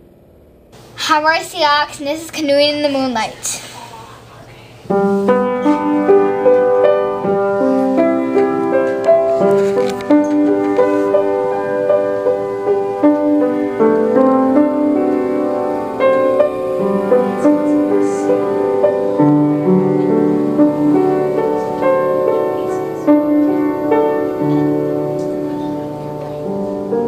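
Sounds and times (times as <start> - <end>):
slow piano melody: 4.9 - 27.0.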